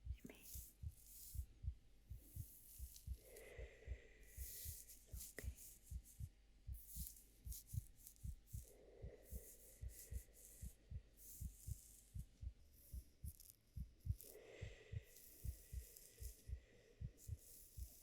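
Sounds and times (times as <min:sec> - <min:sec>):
faint heartbeat thumps: 0:00.0 - 0:18.0.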